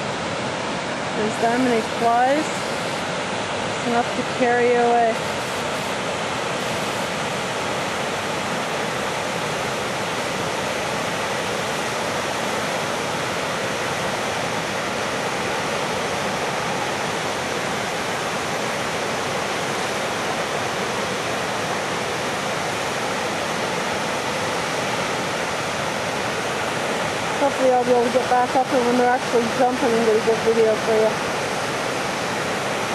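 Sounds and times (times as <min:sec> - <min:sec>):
waterfall and river rapids: 0:00.0 - 0:32.9.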